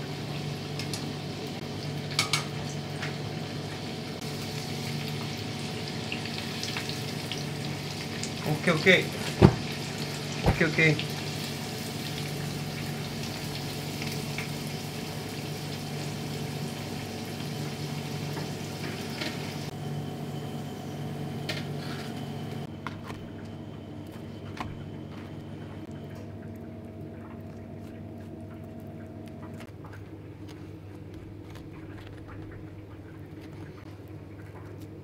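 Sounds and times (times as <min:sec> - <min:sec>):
low steady hum: 0:00.0 - 0:35.0
meat deep-frying in oil: 0:00.0 - 0:35.0.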